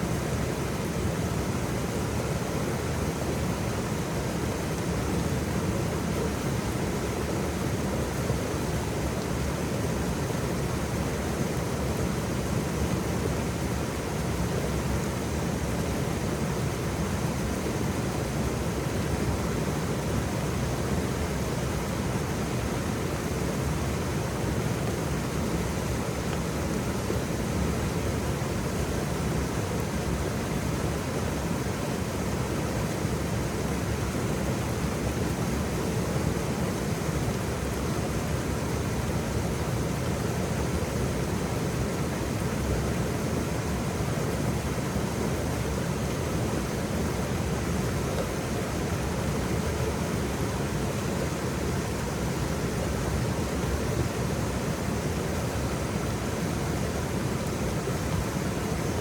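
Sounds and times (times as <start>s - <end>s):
waterfall rushing: 5.7s - 59.0s.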